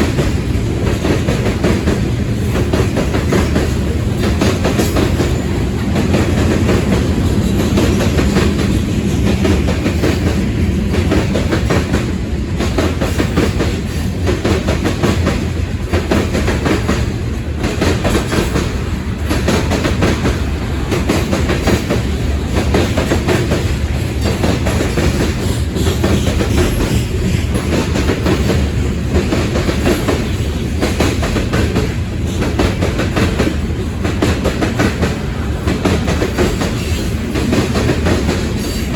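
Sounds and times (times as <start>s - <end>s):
freight train rumbling past: 0.0s - 38.9s
wheels clacking over rail joints: 0.0s - 38.9s.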